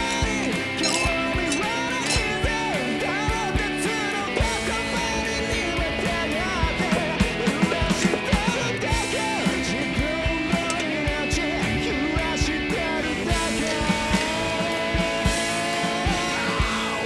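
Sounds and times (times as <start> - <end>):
drum beat: 0.0 - 17.0
electric guitar: 0.0 - 17.0
person singing: 0.0 - 17.0.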